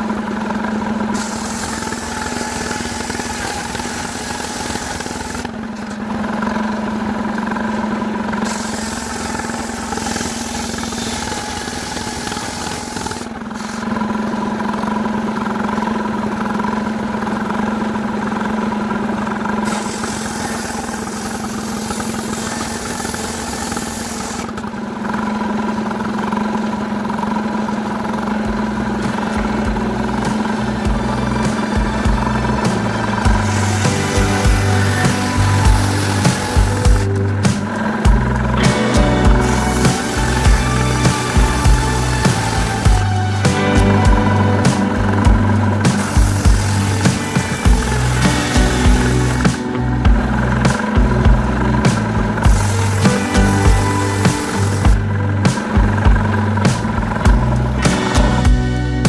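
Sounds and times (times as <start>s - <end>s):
chainsaw running: 0.0s - 59.0s.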